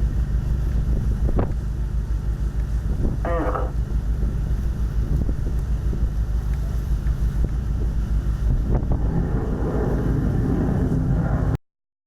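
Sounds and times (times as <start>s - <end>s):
wind buffeting microphone: 0.0s - 1.8s, 2.7s - 11.6s
low rumble: 0.0s - 11.6s.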